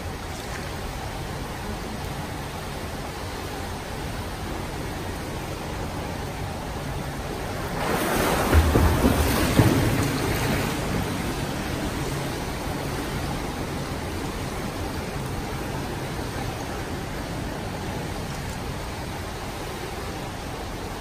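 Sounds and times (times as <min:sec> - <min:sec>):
pool water splashing and sloshing: 0:00.0 - 0:21.0.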